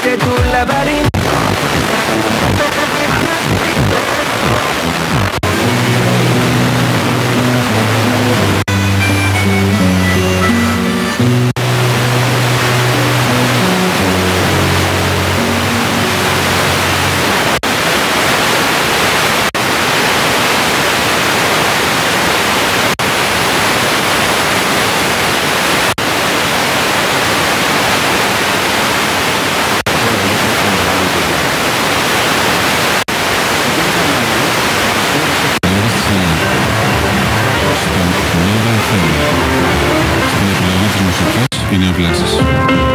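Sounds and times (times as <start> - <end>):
radio station music: 0.0 - 42.9
radio static hiss: 0.9 - 8.7, 10.4 - 42.1.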